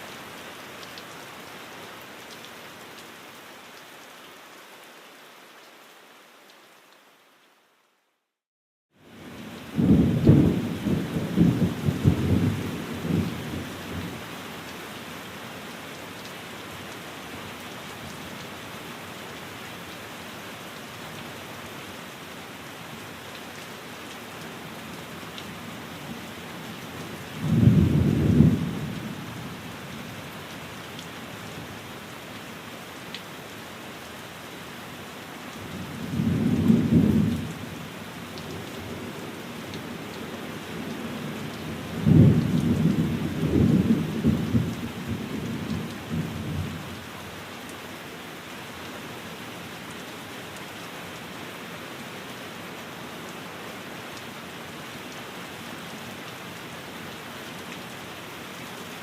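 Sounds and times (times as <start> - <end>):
rain on a window: 0.0 - 8.4, 9.0 - 59.0.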